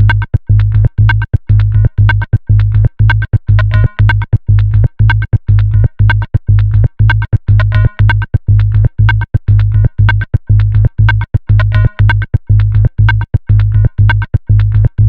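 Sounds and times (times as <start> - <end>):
heavy bass beat: 0.0 - 15.0
synthesizer loop: 0.0 - 15.0.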